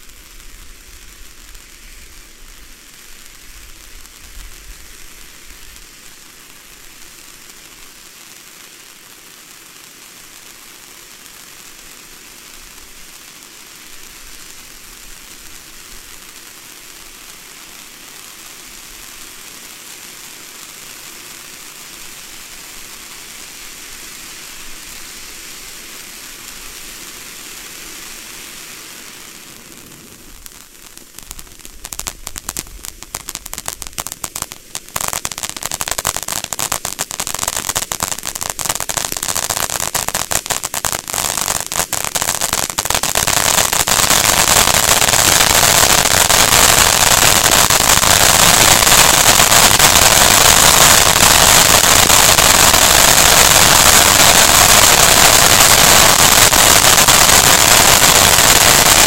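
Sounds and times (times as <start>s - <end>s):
firework crackling: 0.0s - 59.0s
firework sparks hissing: 0.0s - 59.0s.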